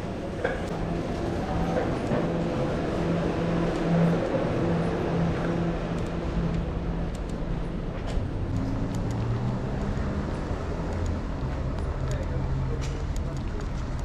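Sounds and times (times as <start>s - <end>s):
road noise: 0.0s - 14.0s
vehicle engine humming: 0.0s - 14.0s.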